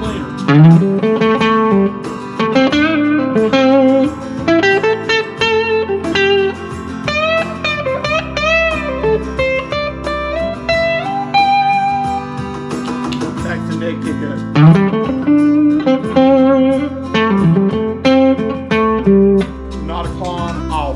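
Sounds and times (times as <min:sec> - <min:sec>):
backing track: 0:00.0 - 0:20.9
electric guitar lead line: 0:00.0 - 0:20.9.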